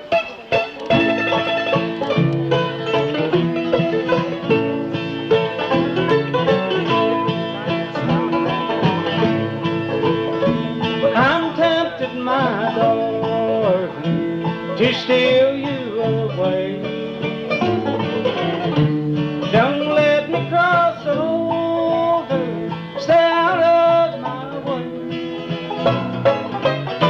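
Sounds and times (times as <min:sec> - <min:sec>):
sliding fiddle line: 0:00.0 - 0:16.0, 0:16.6 - 0:27.0
banjo picking: 0:00.0 - 0:27.0
guitar and bass: 0:00.0 - 0:27.0.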